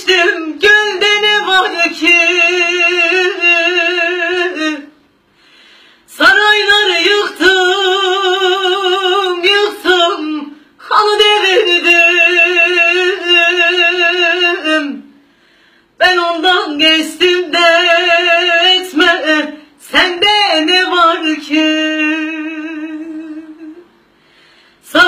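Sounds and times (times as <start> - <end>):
woman singing unaccompanied: 0.0 - 5.0, 6.1 - 15.1, 16.0 - 24.0.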